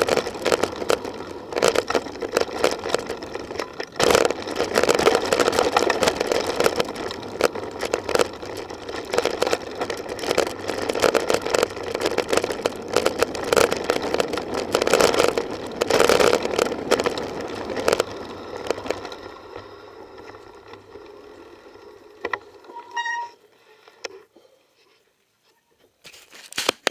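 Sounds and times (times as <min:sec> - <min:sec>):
mountain bike rattling over dirt: 0:00.0 - 0:24.2.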